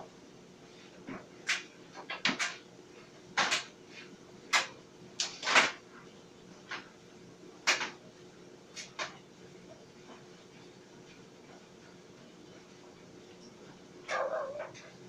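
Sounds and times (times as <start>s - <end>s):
clothes dryer humming: 0.0s - 15.0s.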